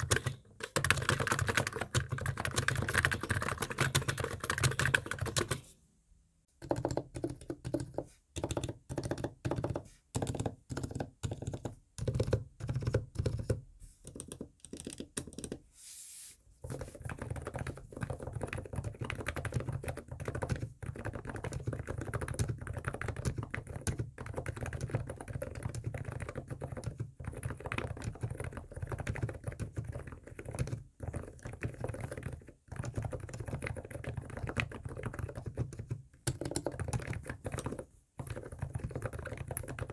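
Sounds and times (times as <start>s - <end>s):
keyboard typing: 0.0s - 5.7s, 6.6s - 15.6s, 16.7s - 39.9s.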